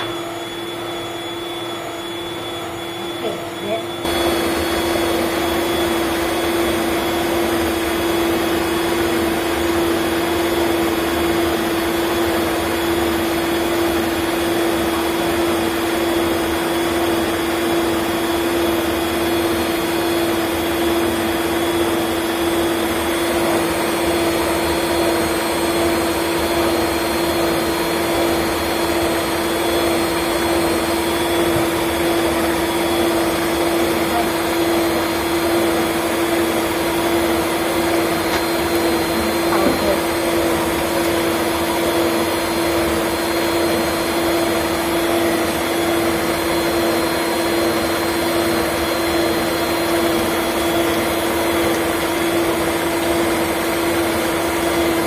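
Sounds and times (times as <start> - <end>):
stand mixer whirring: 0.0 - 55.0.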